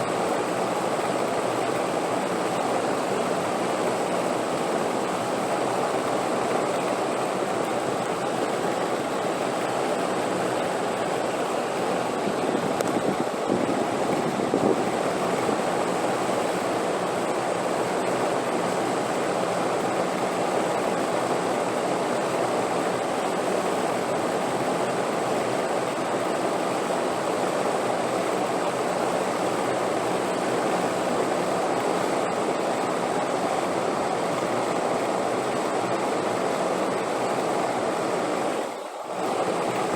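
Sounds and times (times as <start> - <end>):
steady wind: 0.0 - 39.9.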